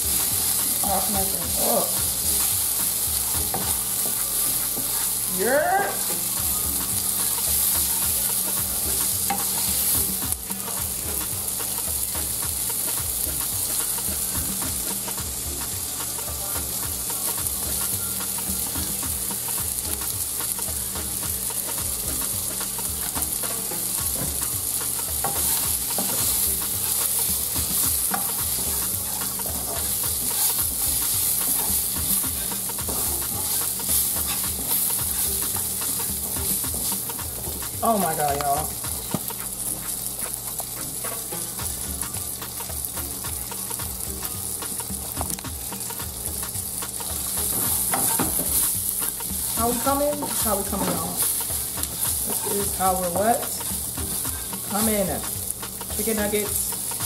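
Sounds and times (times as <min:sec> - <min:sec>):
spatula scraping a pan: 0:00.0 - 0:20.7, 0:22.2 - 0:41.6, 0:46.7 - 0:57.0
food sizzling in oil: 0:00.0 - 0:57.0.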